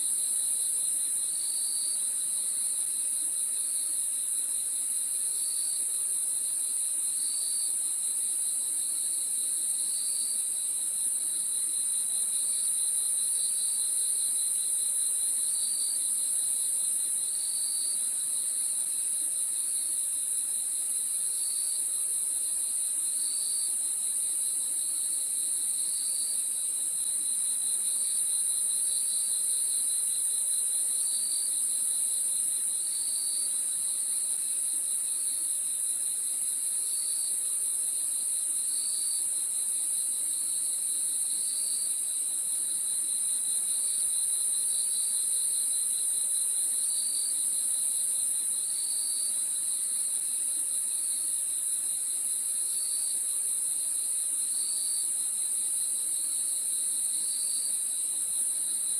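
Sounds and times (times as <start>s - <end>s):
lower cricket chirp: 0.0s - 58.9s
crickets trilling: 0.3s - 58.9s.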